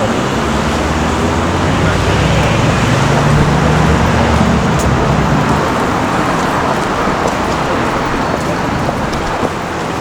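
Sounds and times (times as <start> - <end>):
steady road noise: 0.0 - 10.0
vehicle engine humming: 0.0 - 10.0.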